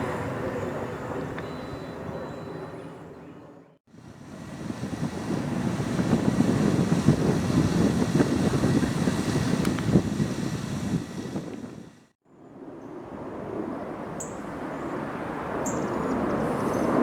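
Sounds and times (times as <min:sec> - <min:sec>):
aircraft flying past: 0:00.0 - 0:17.0.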